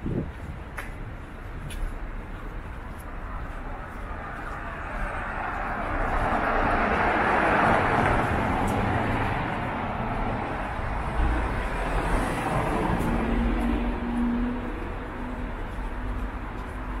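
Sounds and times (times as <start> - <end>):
car passing: 3.2 - 17.0.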